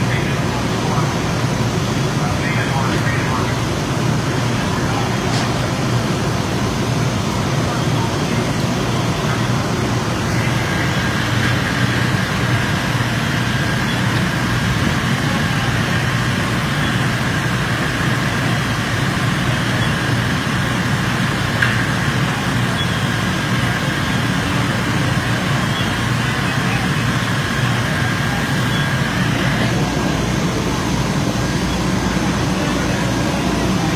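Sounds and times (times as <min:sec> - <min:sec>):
diesel engines droning: 0:00.0 - 0:33.9.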